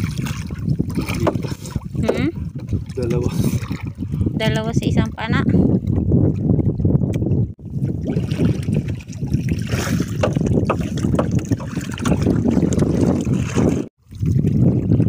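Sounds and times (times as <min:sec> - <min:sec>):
water splashing against boat: 0:00.0 - 0:15.0
wind buffeting microphone: 0:00.0 - 0:15.0.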